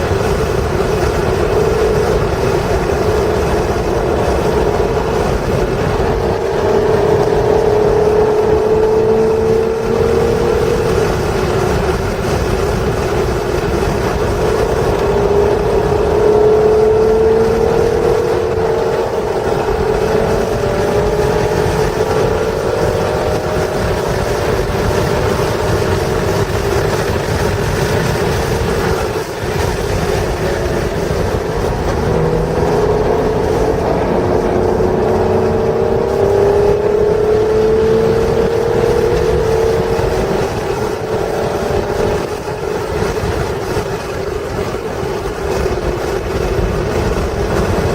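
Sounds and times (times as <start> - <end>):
car engine accelerating: 0.0 - 47.9
wind and road noise: 0.0 - 47.9.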